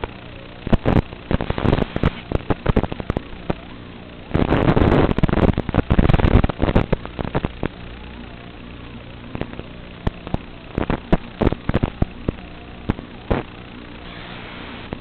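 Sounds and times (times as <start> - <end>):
crackling and popping bursts: 0.0 - 15.0
quadcopter motors humming: 0.0 - 15.0.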